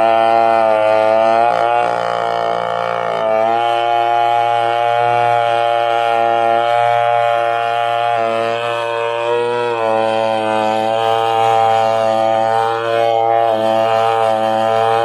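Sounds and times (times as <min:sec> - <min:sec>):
chainsaw cutting: 0:00.0 - 0:15.0.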